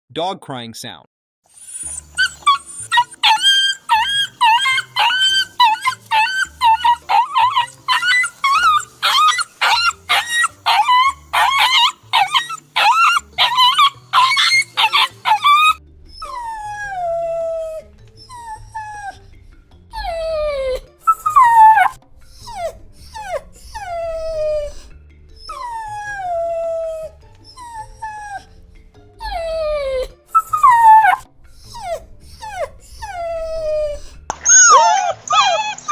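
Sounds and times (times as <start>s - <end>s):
dog whimpering and whining: 1.5s - 19.3s, 19.9s - 28.6s, 29.2s - 35.9s.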